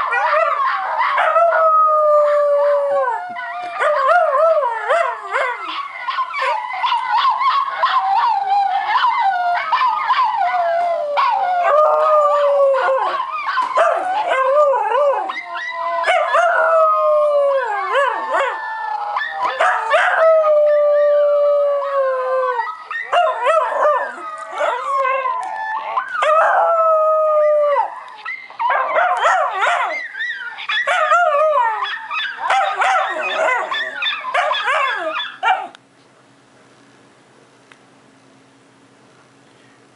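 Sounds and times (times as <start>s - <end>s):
dog howling: 0.0s - 35.8s.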